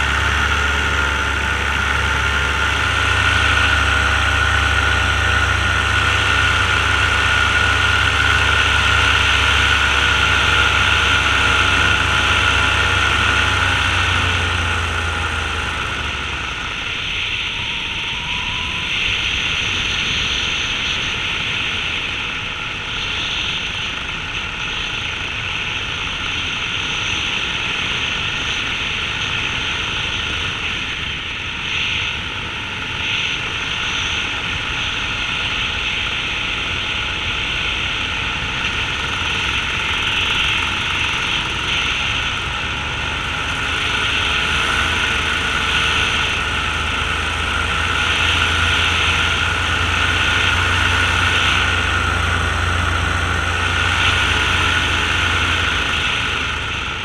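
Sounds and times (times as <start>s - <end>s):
aircraft engine and propeller drone: 0.0s - 57.0s.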